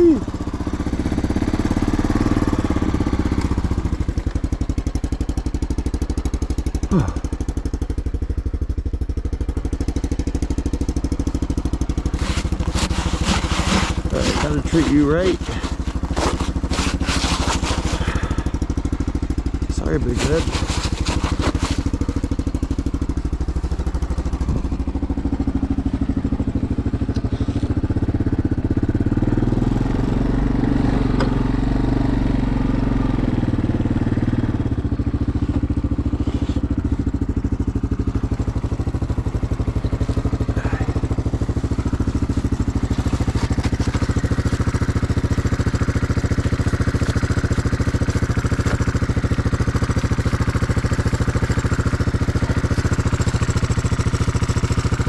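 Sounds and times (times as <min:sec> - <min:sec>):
small engine running: 0:00.0 - 0:24.7, 0:26.4 - 0:55.0.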